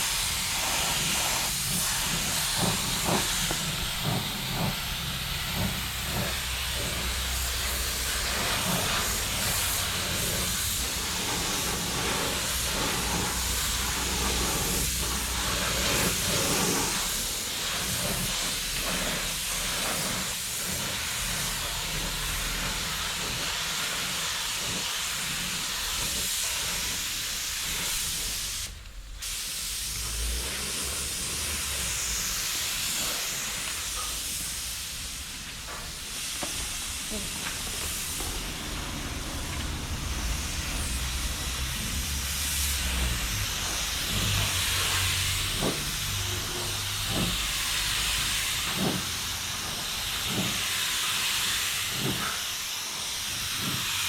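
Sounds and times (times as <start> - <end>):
spray gun hissing: 0.0 - 54.0.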